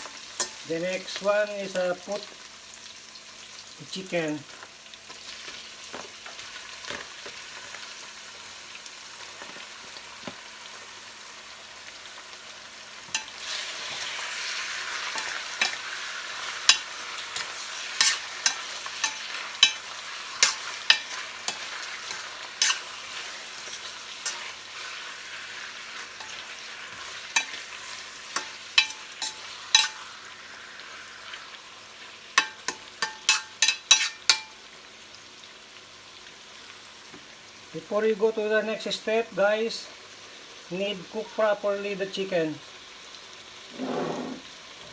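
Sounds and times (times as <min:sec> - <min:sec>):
chicken sizzling in hot oil: 0:00.0 - 0:44.9.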